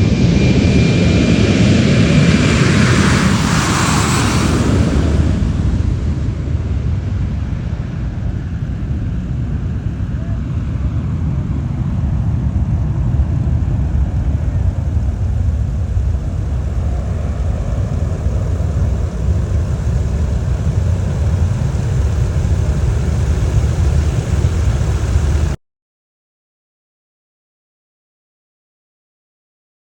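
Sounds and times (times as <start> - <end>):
jet engines roaring: 0.0 - 25.6.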